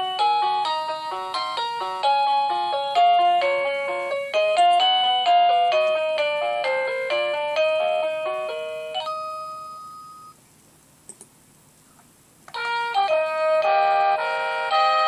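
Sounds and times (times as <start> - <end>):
electronic door chime melody: 0.0 - 10.4, 12.6 - 15.0.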